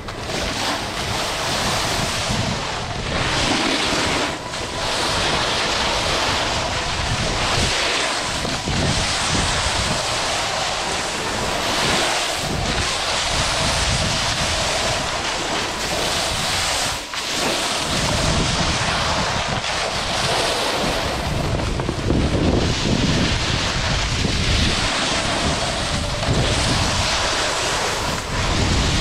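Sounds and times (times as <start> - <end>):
snowboard scraping snow: 0.0 - 29.0
wind rushing over microphone: 0.0 - 29.0.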